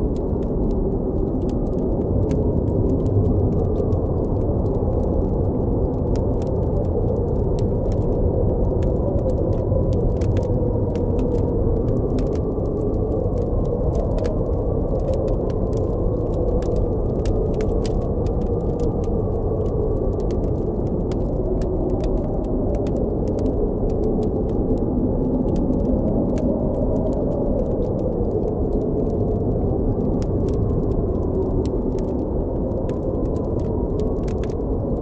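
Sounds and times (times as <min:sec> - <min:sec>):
blizzard wind howling: 0:00.0 - 0:35.0
campfire crackling and popping: 0:00.0 - 0:35.0.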